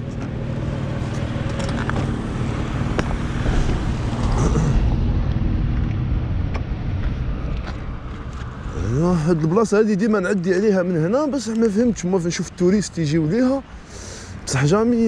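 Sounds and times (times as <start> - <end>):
scooter engine hum: 0.0 - 15.0.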